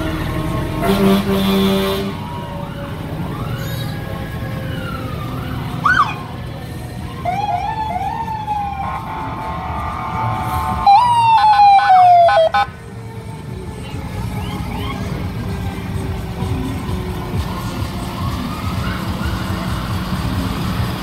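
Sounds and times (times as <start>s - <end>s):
fire truck siren: 0.0s - 21.0s
low engine rumble: 0.0s - 21.0s.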